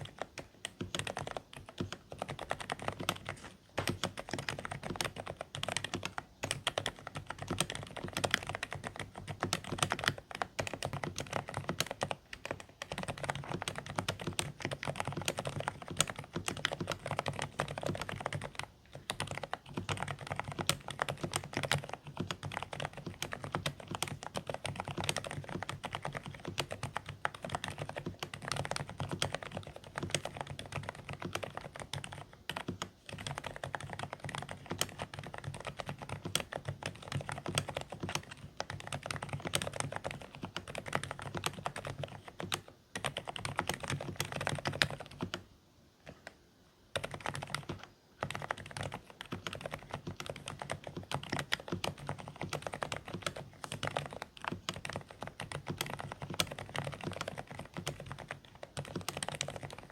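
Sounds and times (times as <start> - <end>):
muffled keyboard typing: 0.0 - 59.9.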